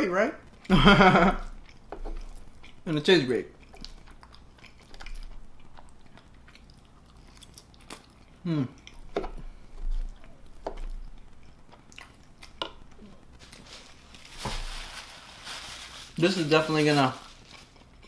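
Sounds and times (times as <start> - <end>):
chewing fries: 0.3 - 18.0.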